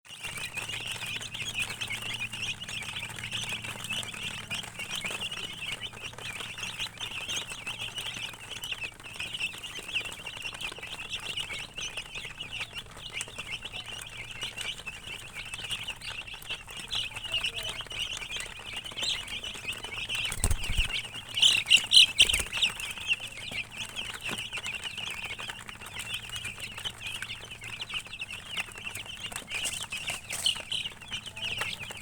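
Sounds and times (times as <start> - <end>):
chicks peeping: 0.1 - 32.0.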